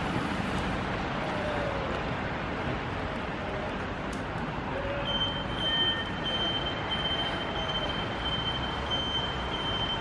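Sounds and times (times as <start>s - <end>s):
fire engine rumbling: 0.0s - 10.0s.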